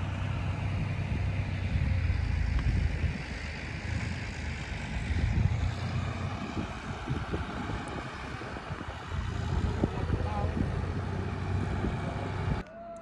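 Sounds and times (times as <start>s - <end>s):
tractor engine droning: 0.0s - 12.7s.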